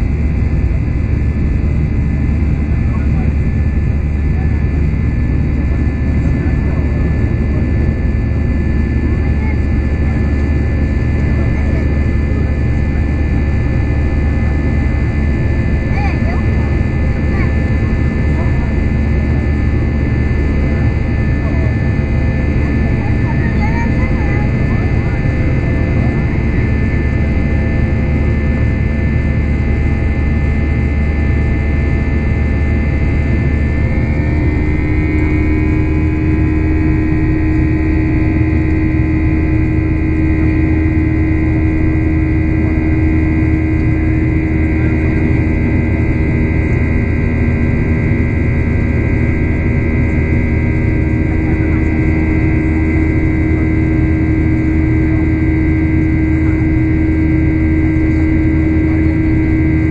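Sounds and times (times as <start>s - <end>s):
jet engines droning with whining tones: 0.0s - 59.9s.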